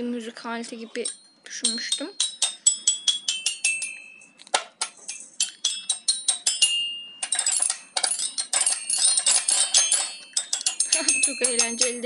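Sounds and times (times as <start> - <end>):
toy xylophone notes: 1.0 - 12.0.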